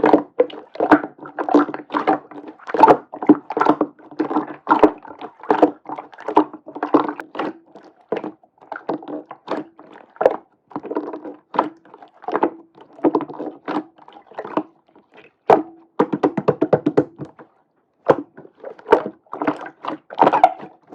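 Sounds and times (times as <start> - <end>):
air bubbles popping: 0.0 - 17.4, 18.1 - 20.9.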